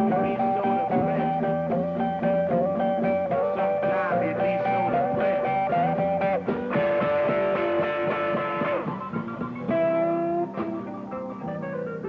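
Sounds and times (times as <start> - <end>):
blues band playing: 0.0 - 12.0.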